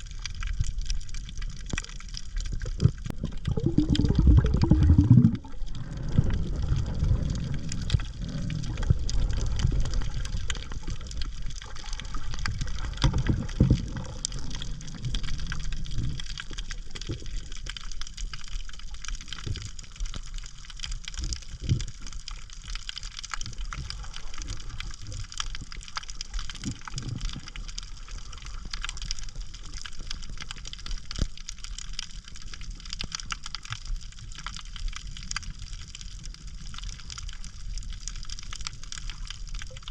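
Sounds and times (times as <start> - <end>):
low churning water: 0.0 - 39.9
water crackling: 0.0 - 39.9.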